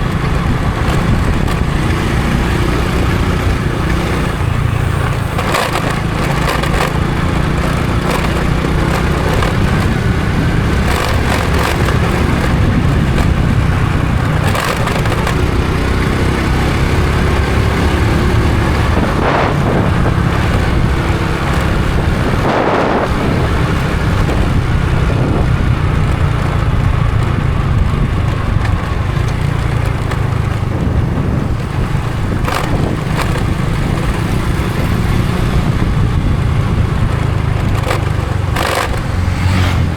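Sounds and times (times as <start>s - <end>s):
knocks and crackles from road: 0.0s - 39.9s
motorcycle engine running: 0.0s - 39.9s
wind and road noise: 0.0s - 39.9s.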